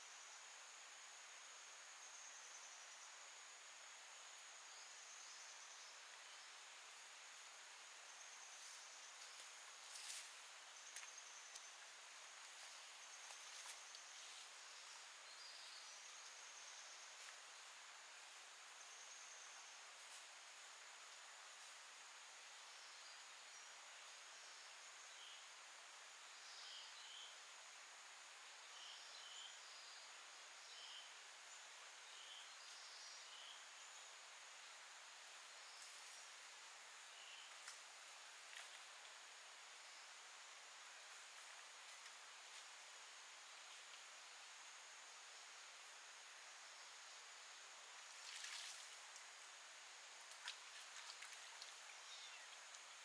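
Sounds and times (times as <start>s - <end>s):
soft hiss: 0.0s - 53.0s.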